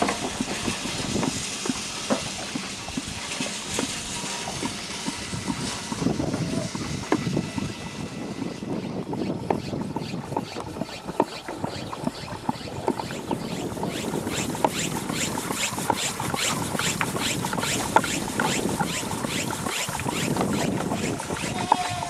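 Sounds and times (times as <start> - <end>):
sprayer hand pump strokes: 0.0 - 22.0.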